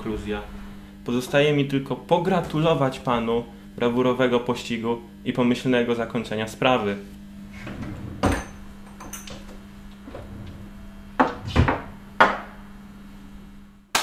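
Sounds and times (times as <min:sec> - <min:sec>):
faint low hum: 0:00.0 - 0:13.9.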